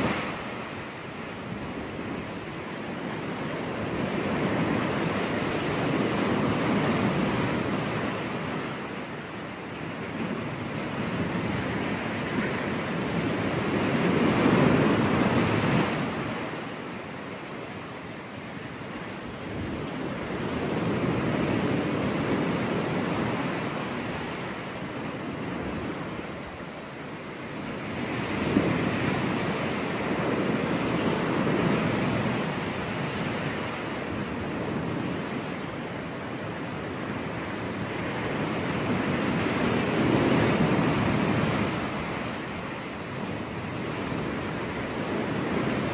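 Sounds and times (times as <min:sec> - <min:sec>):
waves breaking on a beach: 0:00.0 - 0:45.9.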